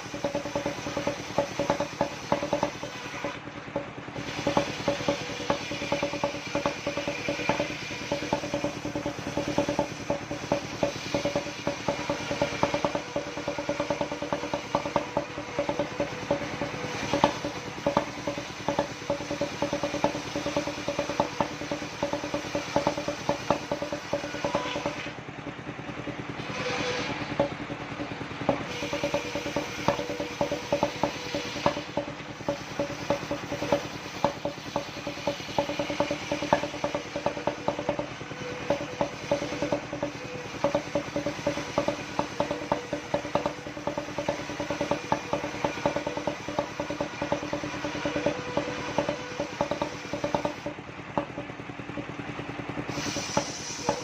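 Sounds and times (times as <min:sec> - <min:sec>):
rapid irregular clicking and clatter: 0:00.0 - 0:54.0
sawmill machine hum: 0:00.0 - 0:54.0.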